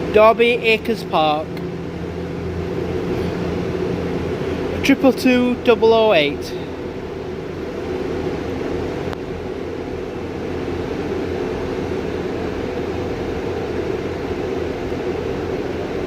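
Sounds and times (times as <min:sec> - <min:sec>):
train diesel engines droning: 0:00.0 - 0:16.0.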